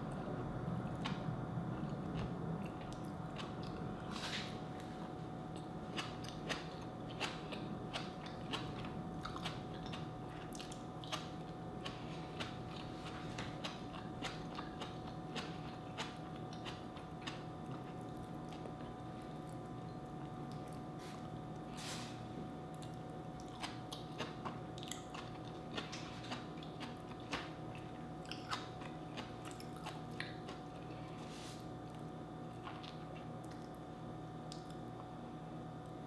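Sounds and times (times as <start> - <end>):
chewing crisp vegetables: 0.1 - 35.2.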